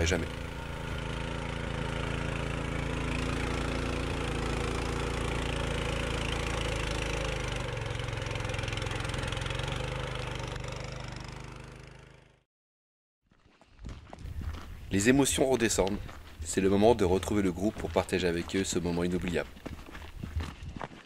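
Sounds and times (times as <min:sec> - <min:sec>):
vehicle engine running: 0:00.0 - 0:12.4, 0:15.0 - 0:20.4.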